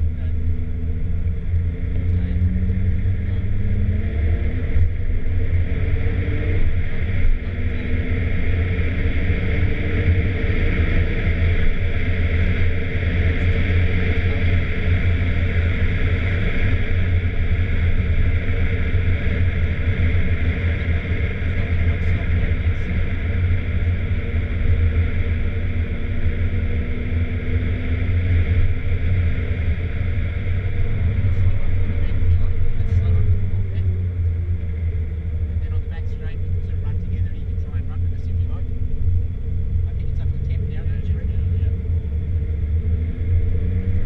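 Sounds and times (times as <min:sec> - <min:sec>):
car engine rumble: 0:00.0 - 0:44.0
road noise: 0:00.0 - 0:44.0.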